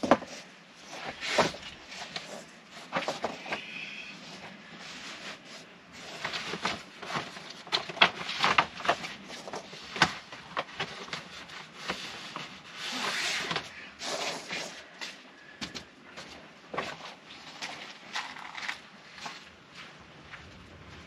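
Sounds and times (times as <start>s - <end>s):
foam tiles rubbing and scraping: 0.0s - 19.6s.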